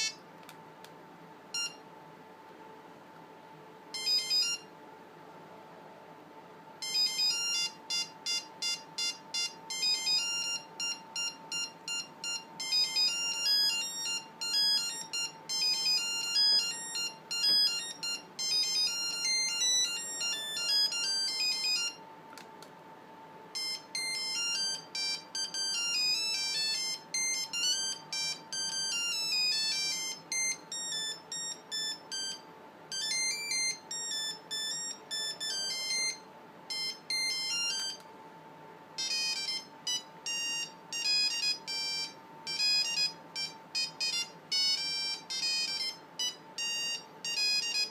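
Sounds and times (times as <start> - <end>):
phone ringtone beeping melodies: 0.0 - 0.2, 1.5 - 1.8, 3.9 - 4.7, 6.8 - 22.0, 23.6 - 38.0, 39.0 - 47.9.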